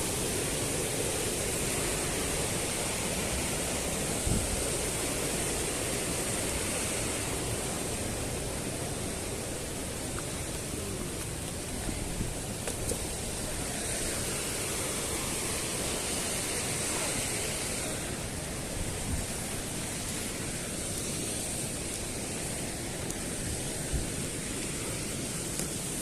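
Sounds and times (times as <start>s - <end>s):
white water rushing: 0.0s - 26.0s.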